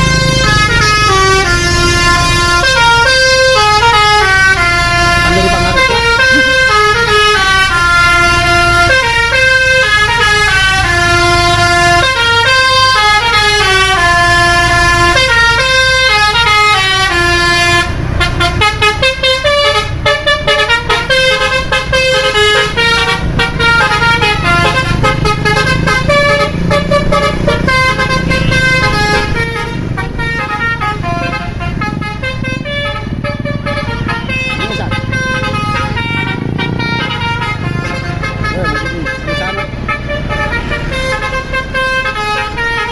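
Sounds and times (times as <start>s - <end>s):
bus engine running: 0.0s - 42.9s
multi-tone bus horn melody: 0.0s - 42.9s.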